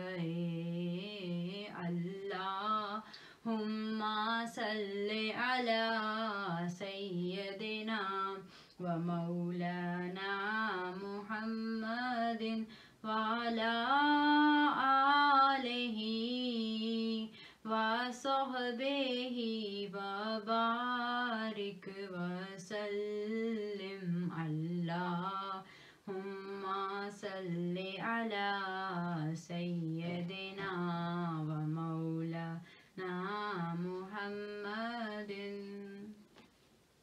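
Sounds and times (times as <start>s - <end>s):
person singing unaccompanied: 0.0s - 36.4s.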